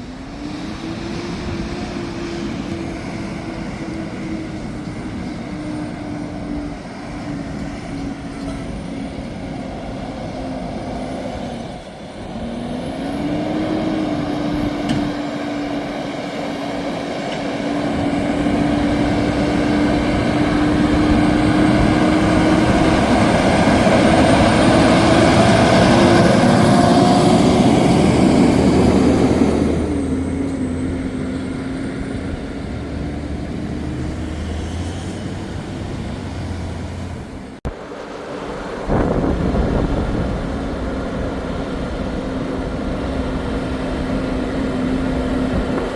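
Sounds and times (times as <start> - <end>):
road noise: 0.0 - 45.9
truck diesel engine under load: 0.0 - 45.9.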